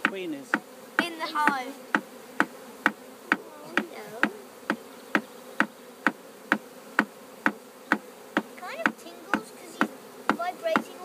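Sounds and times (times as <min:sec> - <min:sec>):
bees humming: 0:00.0 - 0:11.0.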